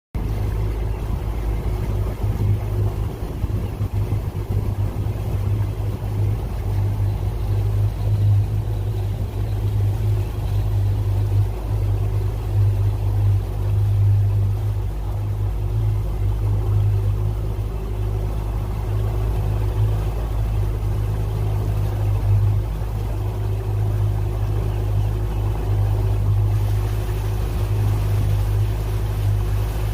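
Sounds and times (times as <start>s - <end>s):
boat motor droning: 0.1s - 29.9s.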